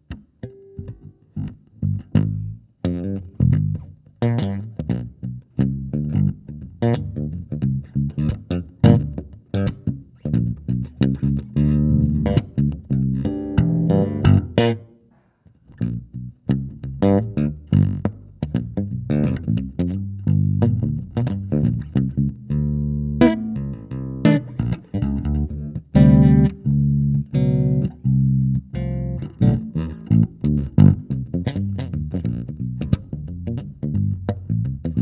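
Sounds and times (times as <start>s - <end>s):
electric bass guitar plucked notes: 0.0s - 14.9s, 15.7s - 35.0s.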